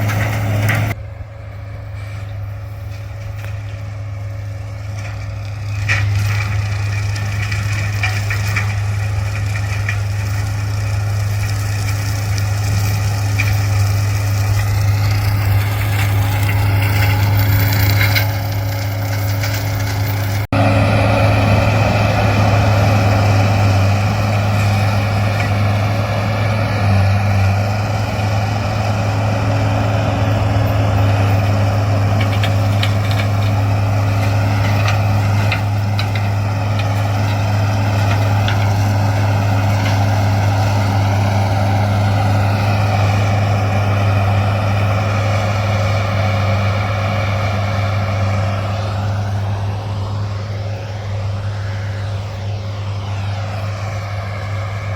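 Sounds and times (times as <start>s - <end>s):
diesel engine at high revs: 0.0s - 54.9s.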